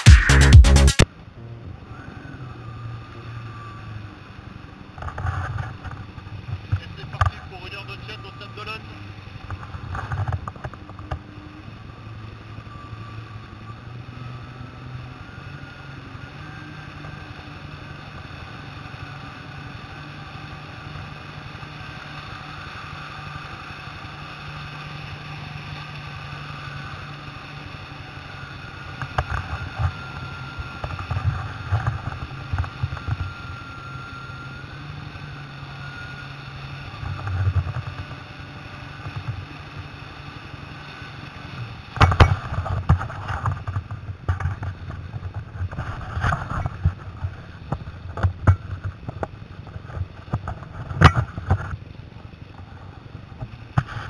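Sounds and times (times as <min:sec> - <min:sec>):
jet ski engine droning: 0:00.0 - 0:54.0.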